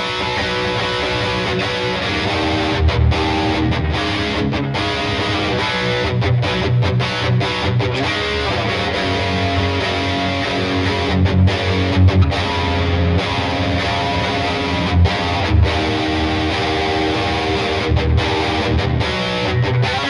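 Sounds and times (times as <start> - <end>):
distorted electric guitar chords: 0.0 - 20.0.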